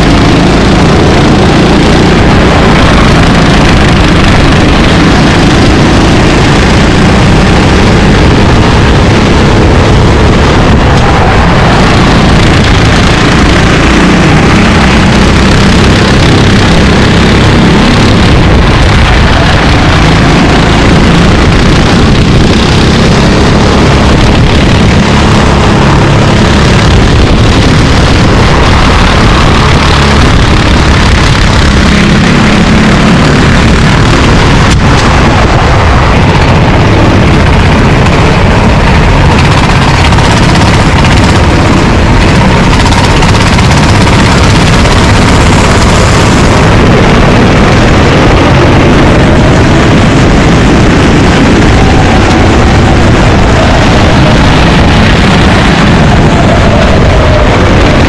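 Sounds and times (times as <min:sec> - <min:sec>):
kart engines racing: 0:00.0 - 0:58.0.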